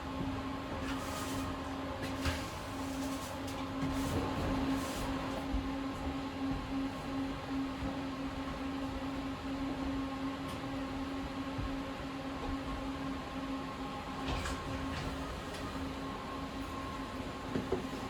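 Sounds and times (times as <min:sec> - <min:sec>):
tram electric hum: 0:01.6 - 0:18.0.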